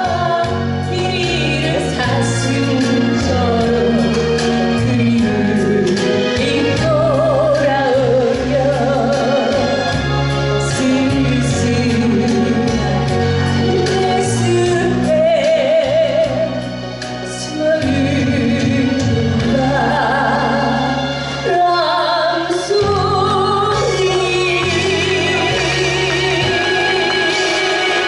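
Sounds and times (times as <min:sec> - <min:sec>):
woman singing a slow ballad: 0:00.0 - 0:10.0, 0:10.6 - 0:28.0
backing accompaniment: 0:00.0 - 0:28.0.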